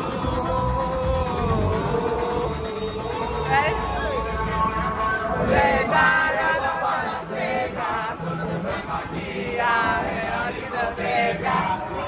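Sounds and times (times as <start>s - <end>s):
music: 0.0s - 12.0s
voices singing in chorus: 0.0s - 12.0s.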